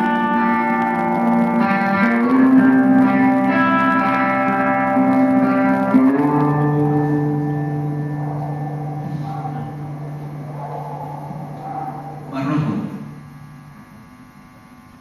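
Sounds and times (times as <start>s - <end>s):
sustained guitar chords: 0.0s - 14.6s.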